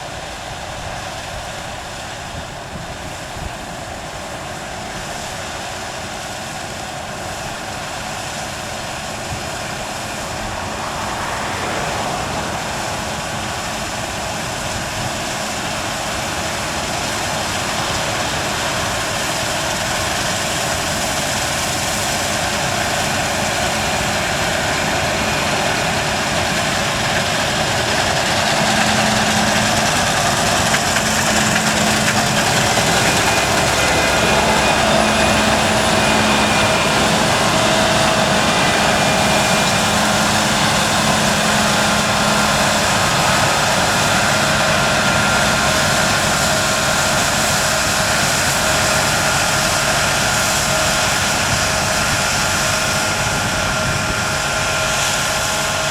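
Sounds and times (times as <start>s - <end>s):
harvest machinery diesel engine: 0.0s - 55.9s.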